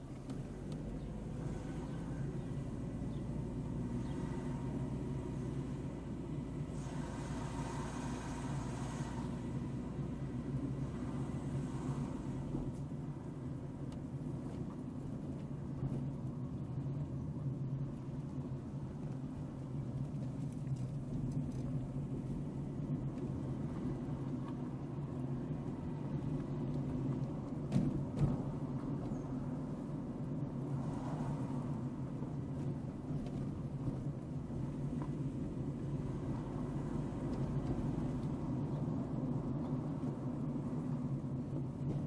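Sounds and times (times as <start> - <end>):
car engine and tyres humming: 0.0 - 42.0.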